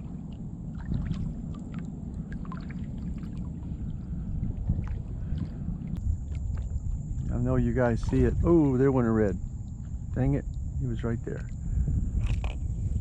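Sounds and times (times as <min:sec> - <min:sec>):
water drips and splashes: 0:00.0 - 0:12.6
kayak paddle dipping in water: 0:00.0 - 0:13.0
wind rumble on microphone: 0:00.0 - 0:13.0.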